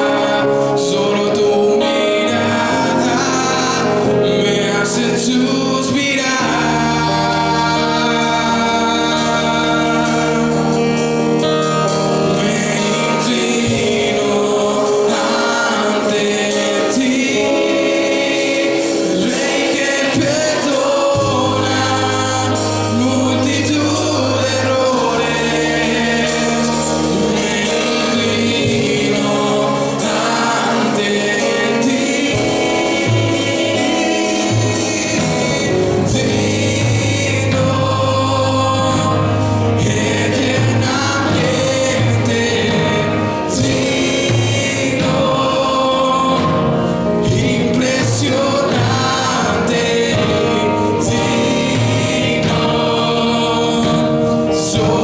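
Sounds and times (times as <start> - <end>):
electric guitar: 0.0 - 55.0
low bass notes: 0.0 - 55.0
man singing: 0.0 - 55.0.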